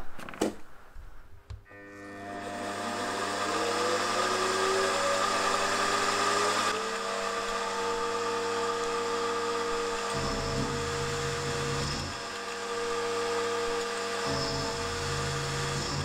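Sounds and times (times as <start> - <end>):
milling machine motor whine: 1.7 - 16.0.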